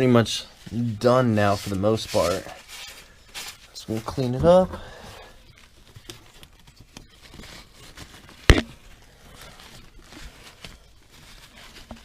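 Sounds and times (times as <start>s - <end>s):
paper or rags rustling: 0.5s - 12.0s.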